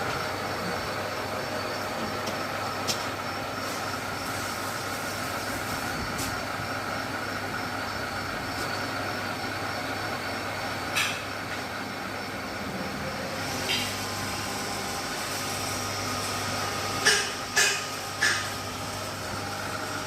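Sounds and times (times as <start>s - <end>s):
metal lathe running: 0.0s - 5.6s, 6.4s - 20.0s.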